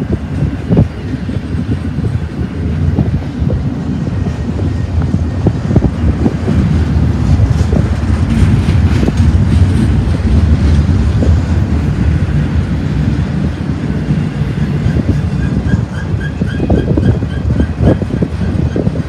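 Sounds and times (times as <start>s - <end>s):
freight train wheels rumbling: 0.0s - 19.0s
train cars clicking and clanking: 0.0s - 19.0s.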